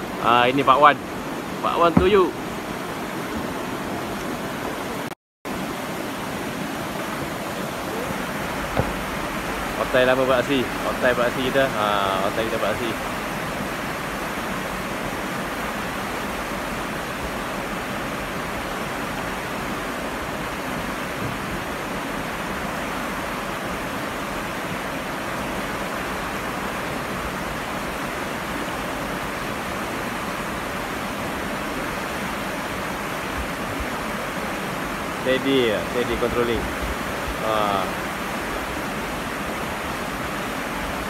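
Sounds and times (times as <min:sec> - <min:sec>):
river rapids rushing: 0:00.0 - 0:41.0.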